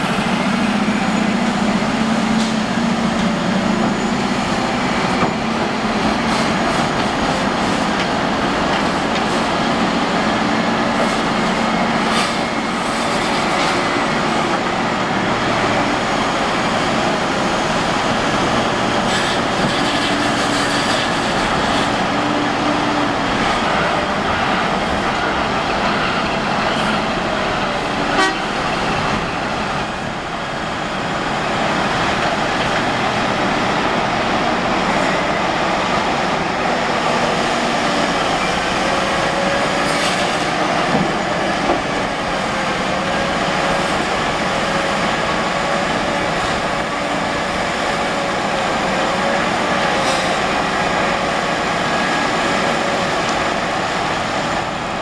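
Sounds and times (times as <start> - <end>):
excavator diesel engine whining: 0.0 - 55.0.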